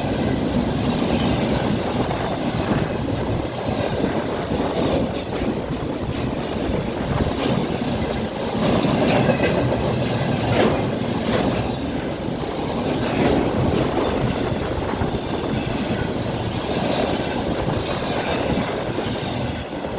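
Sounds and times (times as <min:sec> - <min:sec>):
freight train wheels clattering: 0:00.0 - 0:19.9.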